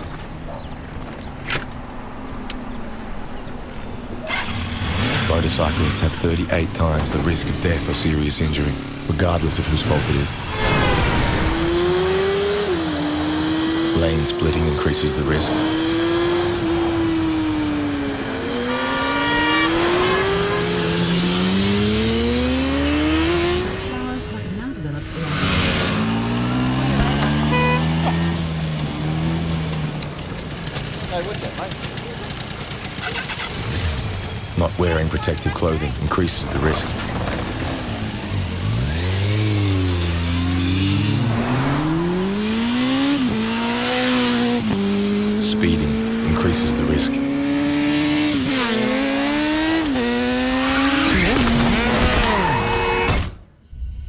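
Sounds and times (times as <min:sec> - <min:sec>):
motorcycle engine revving: 0:04.2 - 0:53.3.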